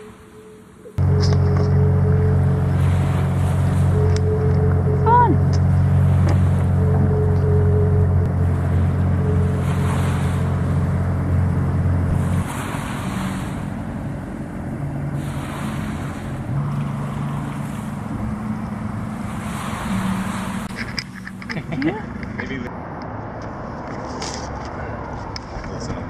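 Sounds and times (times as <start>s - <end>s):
water washing past hull: 0.0s - 22.7s
boat motor running: 0.0s - 26.0s.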